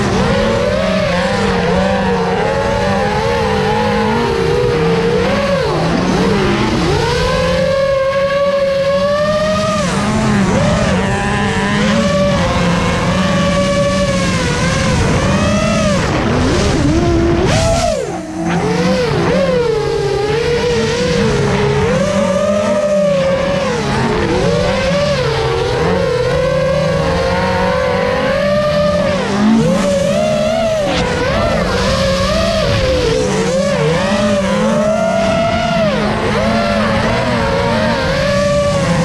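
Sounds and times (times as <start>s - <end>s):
drone motors whining: 0.0s - 39.0s
race car engines: 0.0s - 39.0s.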